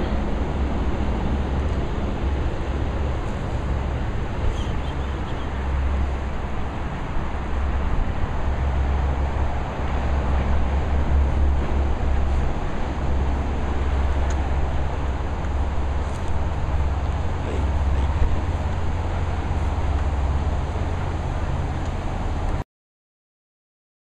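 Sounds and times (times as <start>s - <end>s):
steady rushing noise: 0.0s - 22.6s.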